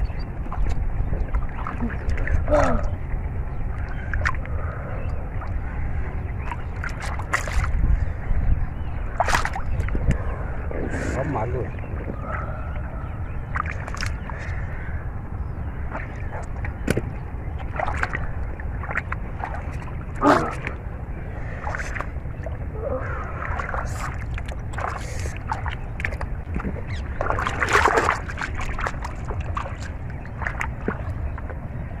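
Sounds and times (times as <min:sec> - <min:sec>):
steady low rumble: 0:00.0 - 0:32.0
water sloshing and splashing: 0:00.0 - 0:32.0.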